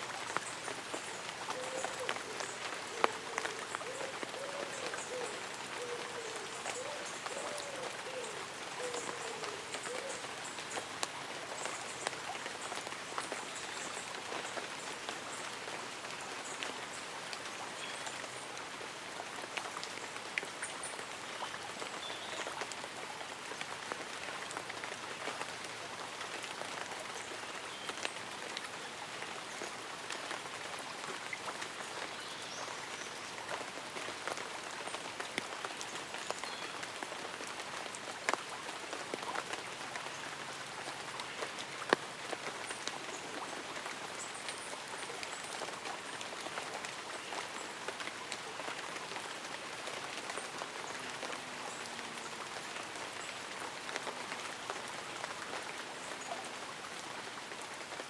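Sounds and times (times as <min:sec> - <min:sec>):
light rain on leaves and umbrella: 0:00.0 - 0:58.0.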